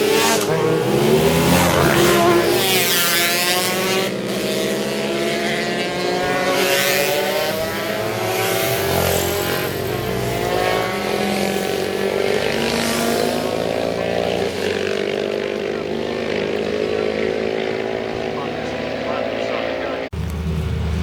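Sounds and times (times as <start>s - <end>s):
distant motorcycle engines: 0.0s - 21.0s
motorcycles passing at high revs: 0.0s - 21.0s.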